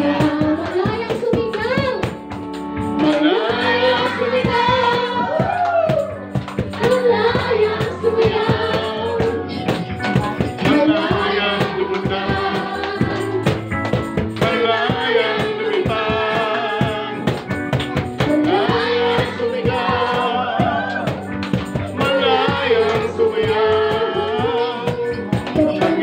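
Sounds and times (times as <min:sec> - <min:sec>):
worship band playing: 0:00.0 - 0:26.0
voices singing: 0:03.0 - 0:05.8, 0:06.7 - 0:13.6, 0:14.4 - 0:26.0.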